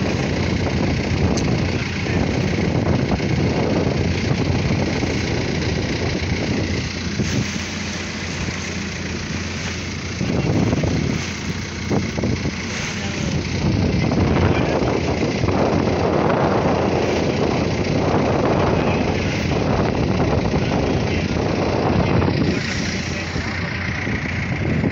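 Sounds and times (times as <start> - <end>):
boat engine running: 0.0 - 24.9
water splashing along hull: 0.0 - 24.9.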